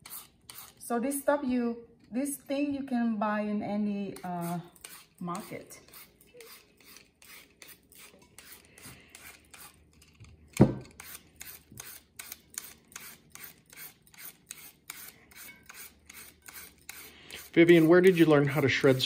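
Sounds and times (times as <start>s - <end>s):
peeler rasping sweet potato: 0.0s - 0.9s, 4.1s - 19.0s.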